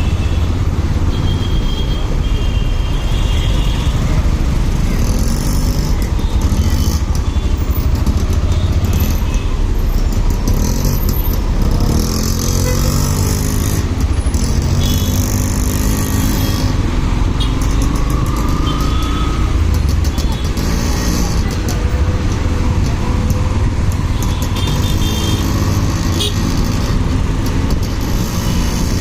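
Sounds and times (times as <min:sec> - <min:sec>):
motorcycle engine: 0:00.0 - 0:29.0.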